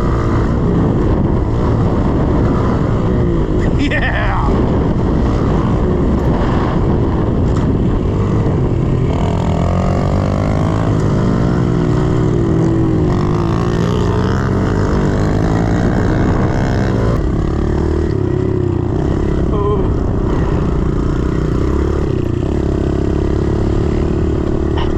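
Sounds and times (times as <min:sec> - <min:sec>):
motorbike engine revving: 0:00.0 - 0:24.9.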